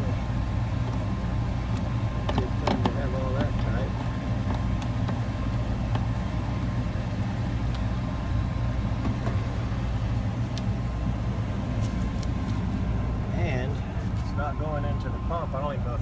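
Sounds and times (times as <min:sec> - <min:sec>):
furnace humming: 0:00.0 - 0:16.0.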